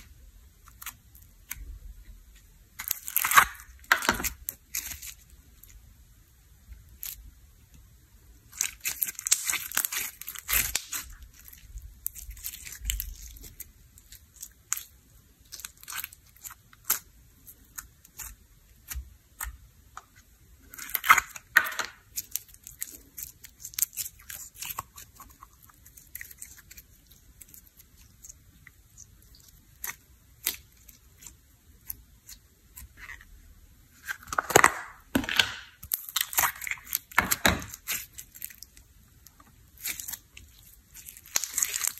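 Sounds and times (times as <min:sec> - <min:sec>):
sticky slime crackling and popping: 0:02.7 - 0:05.8, 0:08.5 - 0:33.2, 0:33.9 - 0:41.9.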